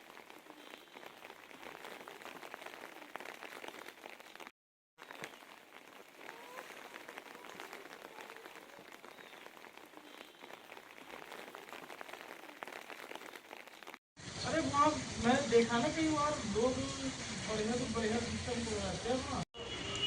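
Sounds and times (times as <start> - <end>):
rain falling: 0.0 - 19.4.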